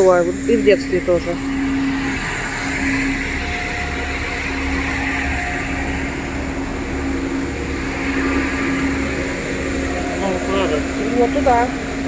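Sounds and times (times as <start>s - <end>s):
street sweeper engine and blower: 0.0s - 12.0s.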